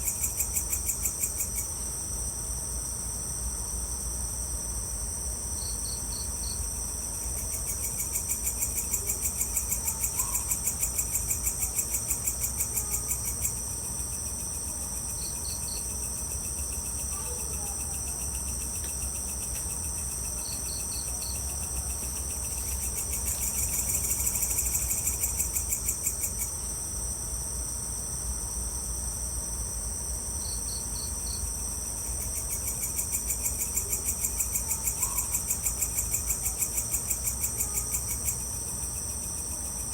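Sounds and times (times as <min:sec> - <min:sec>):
rhythmic insect trill: 0:00.0 - 0:02.3, 0:05.5 - 0:28.1, 0:28.8 - 0:39.9
insects chirring: 0:00.0 - 0:39.9.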